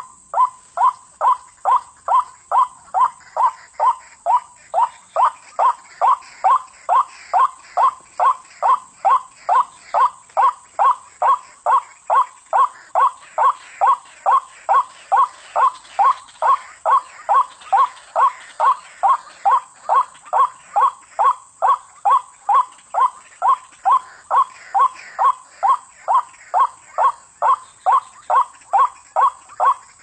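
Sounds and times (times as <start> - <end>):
waterhen calling: 0.0 - 30.0.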